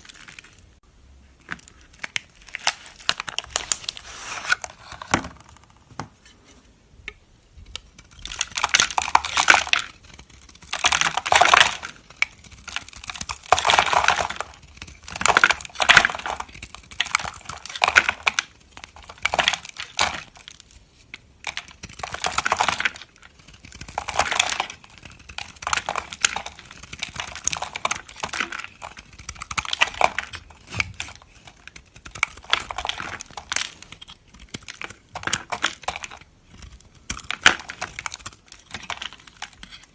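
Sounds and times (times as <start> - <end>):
knife cutting soap: 7.6 - 39.9.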